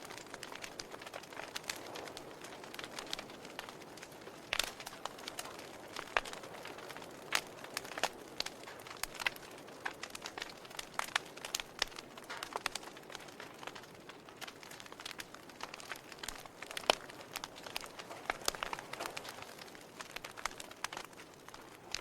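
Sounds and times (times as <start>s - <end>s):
soft fire hiss: 0.0s - 22.0s
wood fire crackling pops: 0.0s - 22.0s.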